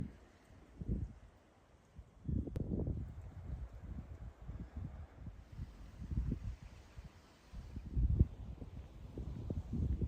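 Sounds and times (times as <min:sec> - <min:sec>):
wind buffeting microphone: 0:00.0 - 0:01.3, 0:02.0 - 0:10.0.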